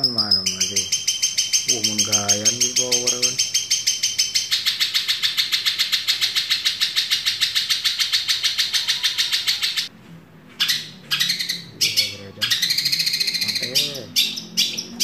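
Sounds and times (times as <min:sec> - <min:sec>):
bird harsh chattering call: 0:00.0 - 0:09.9, 0:10.6 - 0:15.0.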